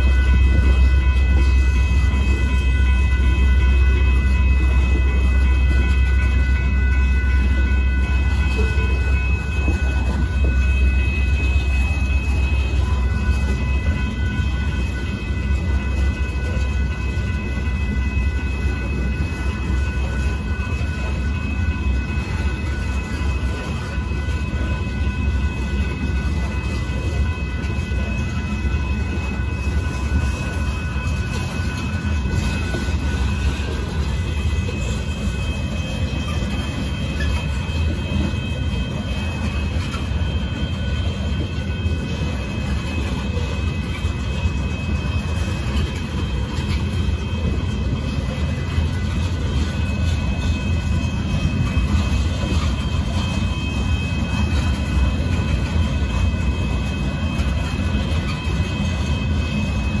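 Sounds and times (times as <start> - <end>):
freight train wheels rumbling: 0.0 - 60.0
high ringing: 0.0 - 60.0.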